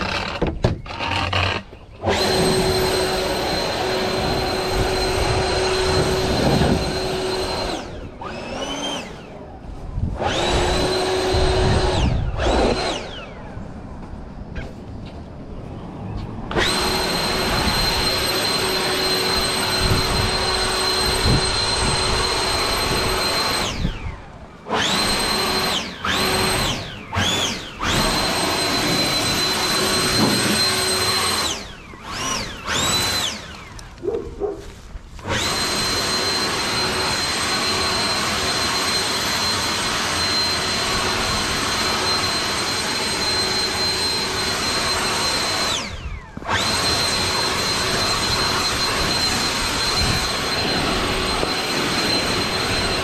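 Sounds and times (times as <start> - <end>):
electric leaf blower whining: 0.0 - 15.0, 16.4 - 53.0.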